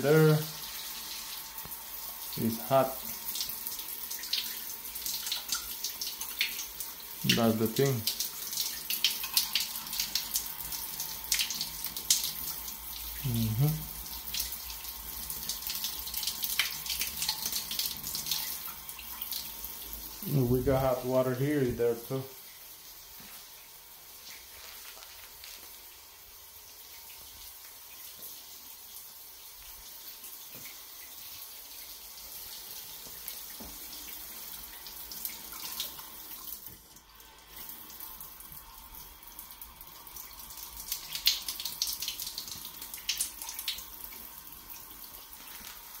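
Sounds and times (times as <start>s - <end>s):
water running from faucet: 0.0s - 46.0s.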